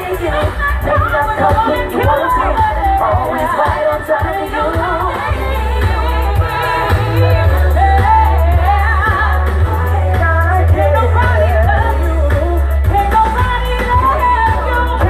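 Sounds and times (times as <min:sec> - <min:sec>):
band with bass line: 0:00.0 - 0:15.0.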